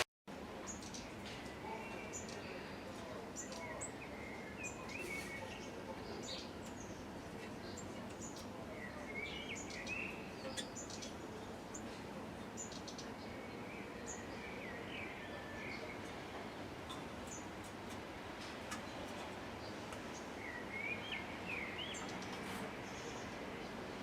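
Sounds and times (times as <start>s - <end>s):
steady background noise: 0.0s - 24.0s
small birds chirping: 0.6s - 24.0s.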